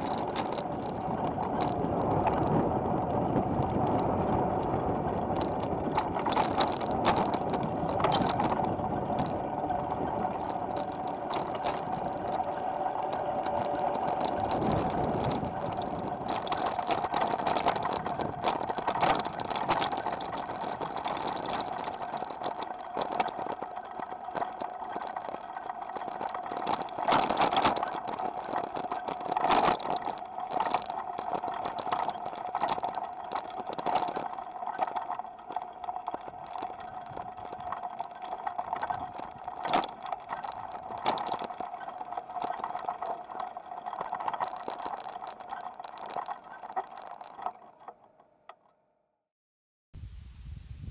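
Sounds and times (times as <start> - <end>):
bicycle bags rattling: 0.0 - 47.9
bicycle riding hum: 0.0 - 49.1.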